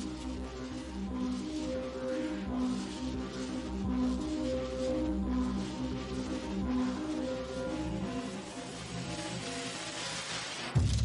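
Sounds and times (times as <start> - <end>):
held low notes music: 0.0 - 11.0.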